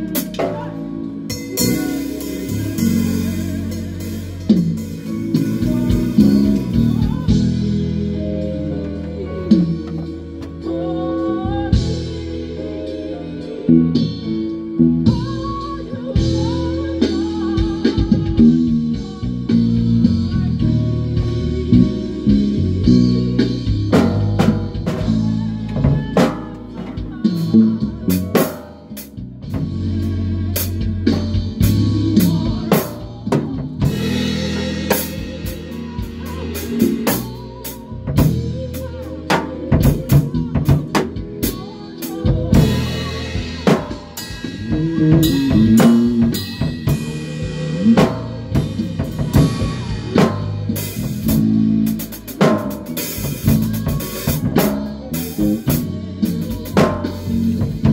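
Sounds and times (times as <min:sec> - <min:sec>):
drum kit playing: 0:00.0 - 0:57.9
sustained low bass notes: 0:00.0 - 0:57.9.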